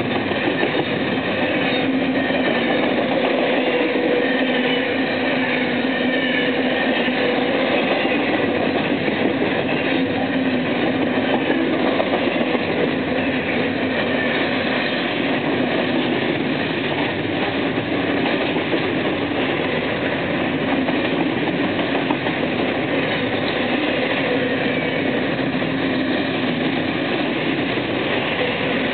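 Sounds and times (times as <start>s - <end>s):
rattling train wagons: 0.0s - 28.9s
steel wheels on rail: 0.0s - 28.9s.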